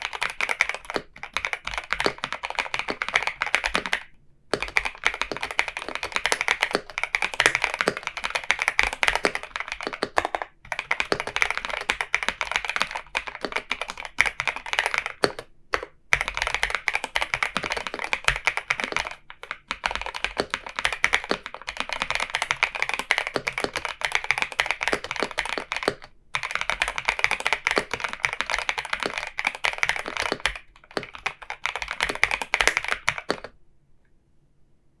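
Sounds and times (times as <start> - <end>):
mechanical keyboard typing: 0.0 - 33.6.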